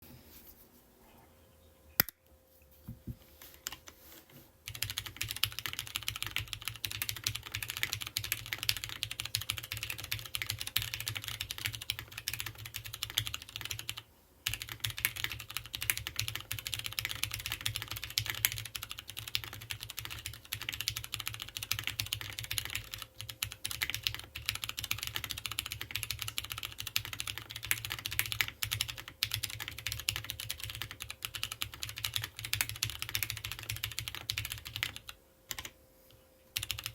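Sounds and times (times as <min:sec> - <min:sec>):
mechanical keyboard typing: 0:04.7 - 0:35.8, 0:36.5 - 0:36.9.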